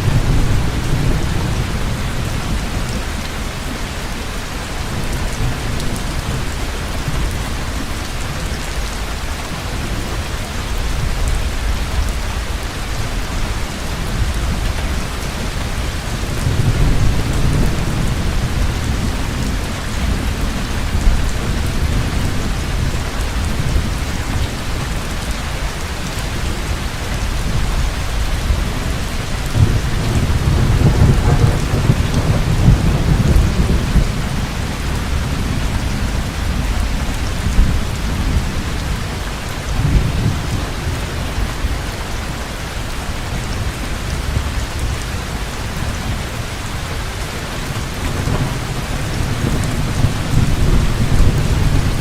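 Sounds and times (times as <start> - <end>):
low thunder rumbling: 0.0 - 8.5, 9.5 - 52.0
heavy rain falling: 0.0 - 52.0.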